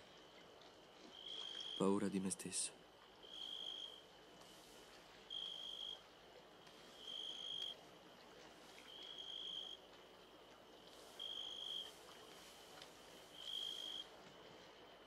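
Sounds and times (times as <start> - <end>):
crickets chirping: 0.1 - 7.8, 8.8 - 15.0.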